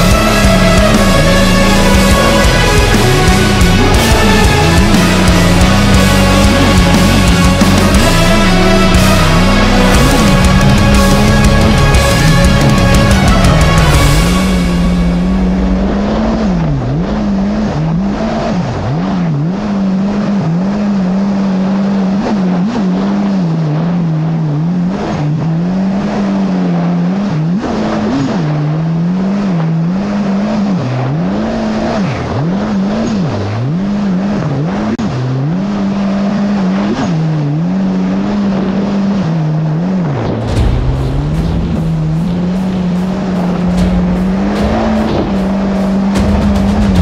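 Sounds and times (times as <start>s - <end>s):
jet ski engine revving: 0.0s - 47.0s
rushing wind and water: 0.0s - 47.0s.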